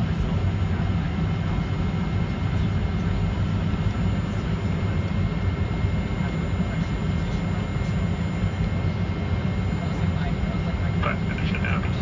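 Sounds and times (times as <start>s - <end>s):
jet engines low rumble: 0.0s - 12.0s.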